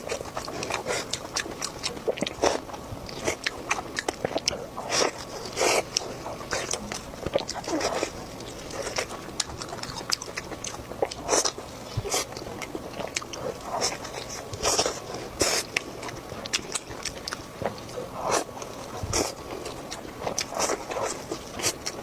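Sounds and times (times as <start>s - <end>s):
crunching and chewing crispy food: 0.0s - 22.0s.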